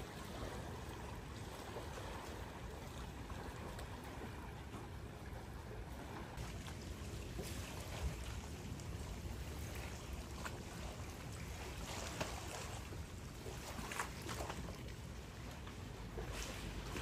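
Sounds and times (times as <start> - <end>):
sea waves lapping on rocks: 0.0 - 17.0.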